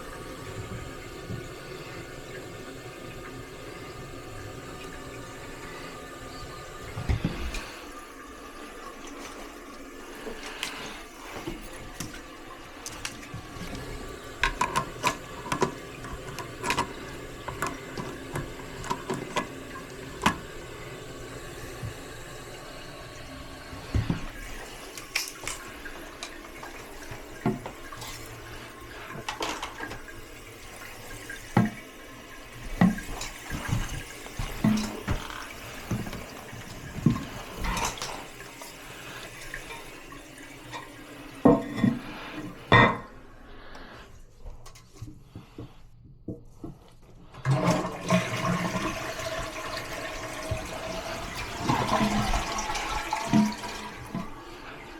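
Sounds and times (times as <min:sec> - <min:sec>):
toilet flushing: 0:00.0 - 0:44.2, 0:47.2 - 0:54.9.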